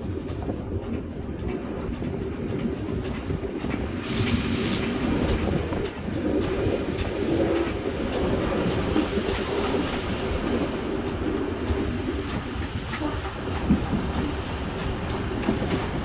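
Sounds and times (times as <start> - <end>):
train wheels rumbling on rail: 0.0 - 16.0
wheels clicking over rail joints: 0.0 - 16.0.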